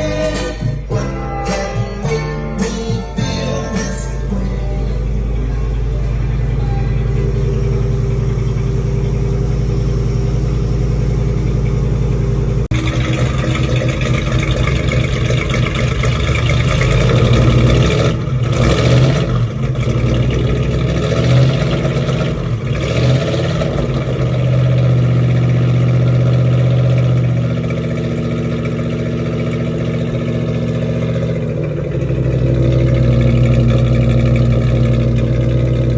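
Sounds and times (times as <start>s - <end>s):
engine running and revving: 0.0s - 35.9s.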